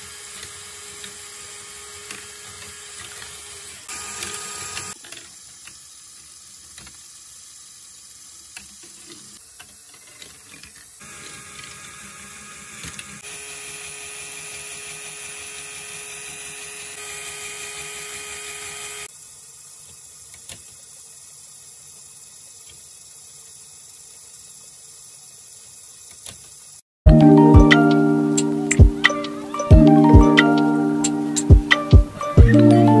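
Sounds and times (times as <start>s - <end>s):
toy motors and gears whirring: 0.0s - 26.9s.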